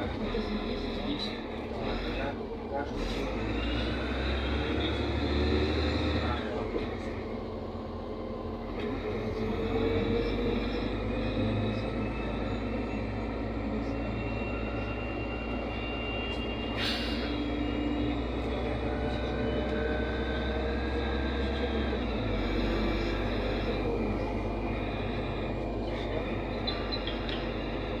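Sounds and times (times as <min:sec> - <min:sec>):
bus engine droning: 0:00.0 - 0:28.0.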